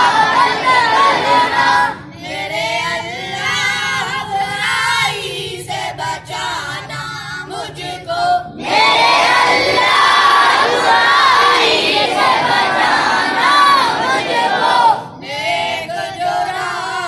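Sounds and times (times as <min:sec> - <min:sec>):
boys chanting a prayer in unison: 0:00.0 - 0:17.0.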